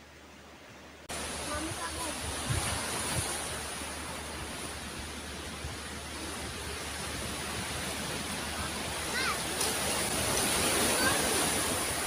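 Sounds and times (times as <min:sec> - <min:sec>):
surf on pebble beach: 0:01.0 - 0:12.0.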